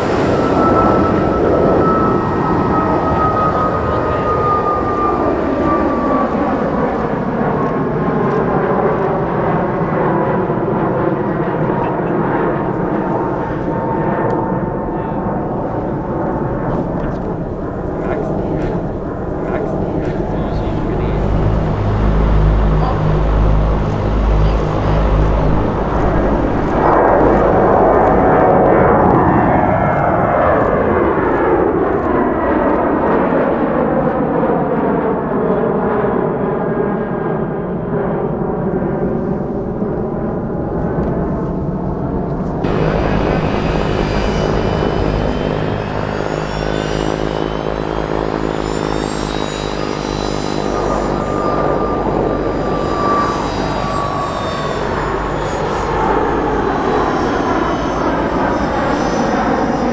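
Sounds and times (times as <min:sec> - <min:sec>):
jet engines at takeoff: 0:00.0 - 0:59.9.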